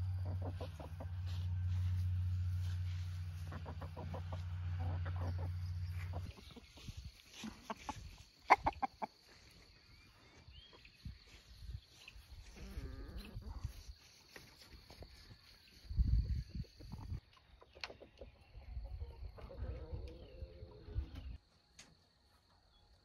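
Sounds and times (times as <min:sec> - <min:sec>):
chickens clucking: 0:00.0 - 0:21.4.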